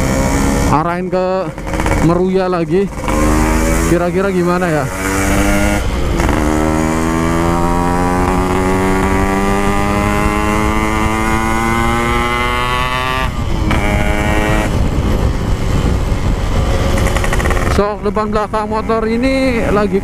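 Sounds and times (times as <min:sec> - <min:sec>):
motorcycle accelerating: 0:00.0 - 0:20.0.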